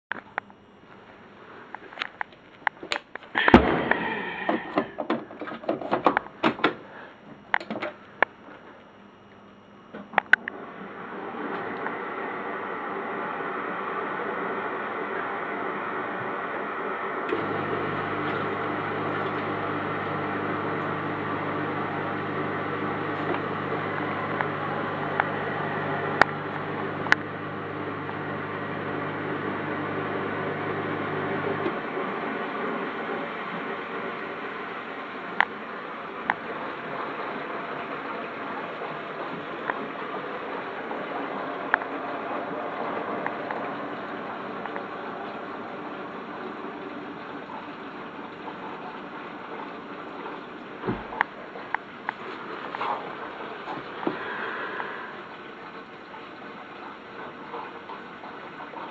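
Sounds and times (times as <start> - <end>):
dishwasher pump humming: 3.2 - 8.8, 9.9 - 58.9
dishwasher water rushing: 10.5 - 58.9.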